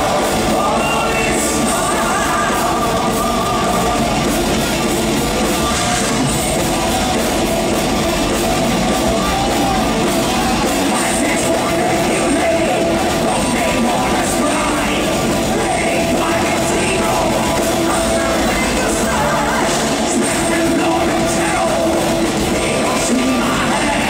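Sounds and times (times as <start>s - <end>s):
metal band playing live: 0.0s - 24.0s.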